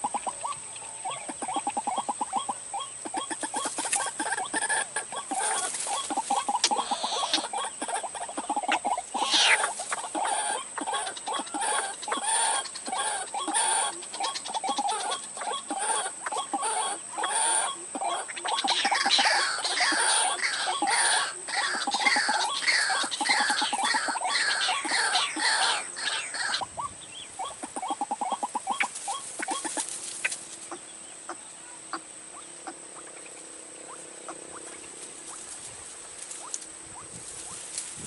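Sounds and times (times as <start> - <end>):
waterhen clucking chatter: 0.0 - 33.3
bird squawks: 0.0 - 35.5.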